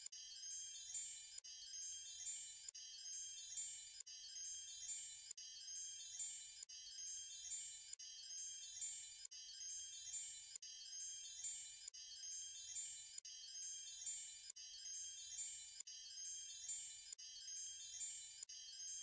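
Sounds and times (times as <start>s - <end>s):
tinkling chime-like music: 0.2s - 19.0s.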